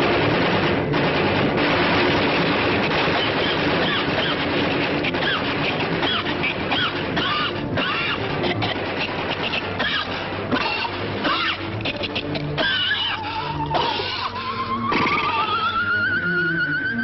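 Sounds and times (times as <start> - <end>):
dense noisy clatter: 0.0 - 15.4
orchestral music: 0.0 - 17.0.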